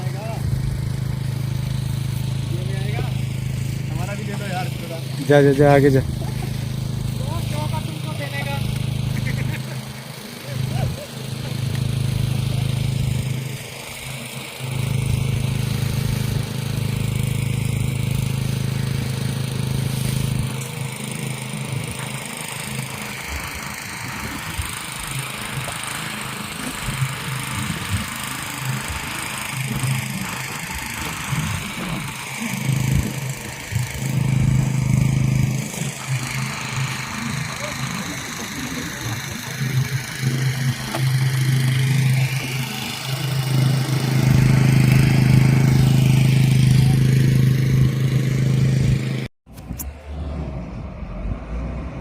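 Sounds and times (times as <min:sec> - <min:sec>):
machinery engine humming: 0:00.0 - 0:52.0.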